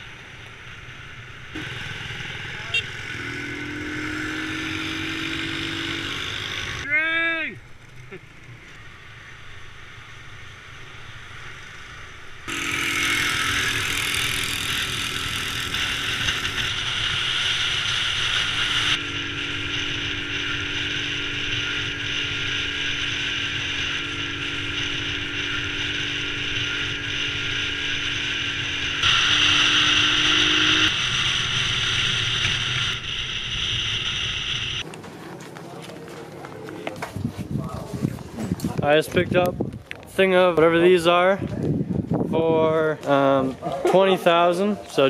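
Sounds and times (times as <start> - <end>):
motorbike engine hum: 0.0 - 7.0, 7.6 - 40.8
road and wind noise: 0.0 - 45.0.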